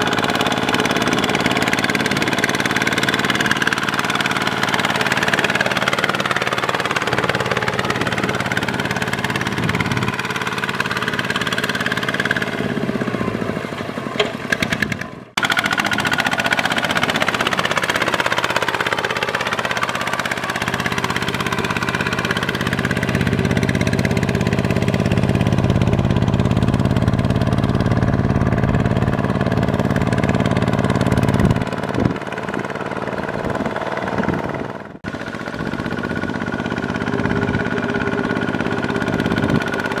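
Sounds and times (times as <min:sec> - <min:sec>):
diesel tractor engine running: 0:00.0 - 0:40.0.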